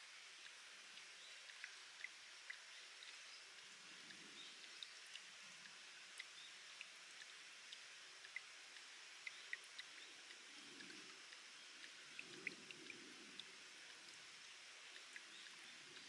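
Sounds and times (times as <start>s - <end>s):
drips plinking into water: 0.0s - 16.0s
water trickling over rock: 0.0s - 16.0s.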